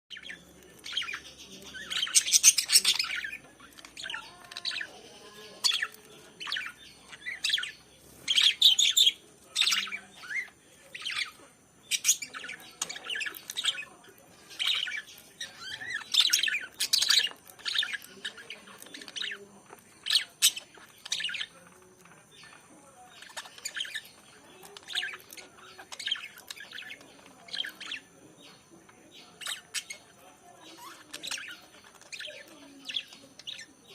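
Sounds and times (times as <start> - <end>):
lovebirds chirping and squawking: 0.1 - 33.9.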